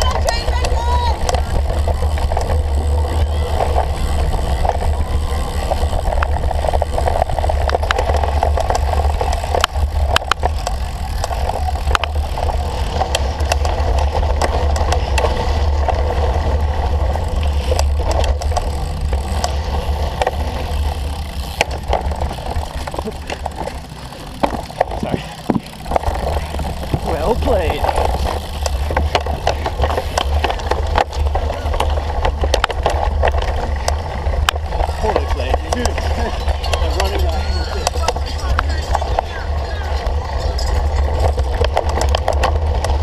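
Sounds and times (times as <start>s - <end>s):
bike clicks and rattles: 0.0s - 43.0s
bike tyre noise: 0.0s - 43.0s.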